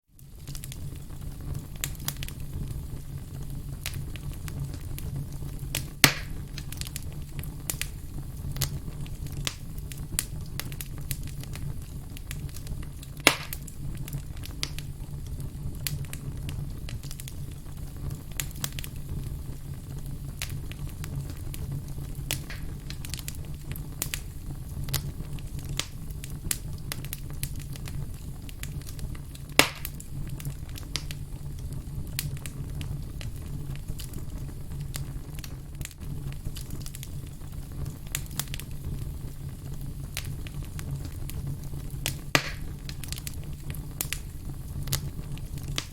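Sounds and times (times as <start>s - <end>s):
wood campfire crackling: 0.1s - 45.9s
sharp pops from fire: 0.2s - 45.9s.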